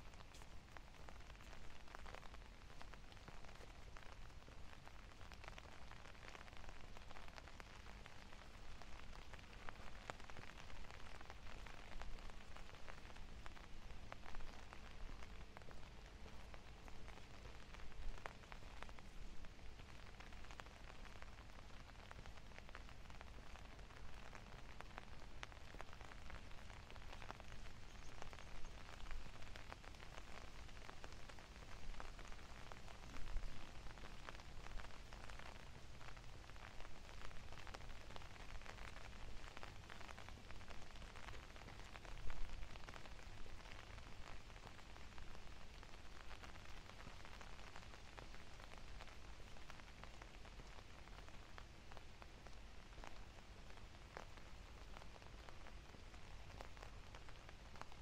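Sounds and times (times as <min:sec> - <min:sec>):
raindrops ticking close by: 0:00.0 - 0:58.0
steady rain: 0:00.0 - 0:58.0.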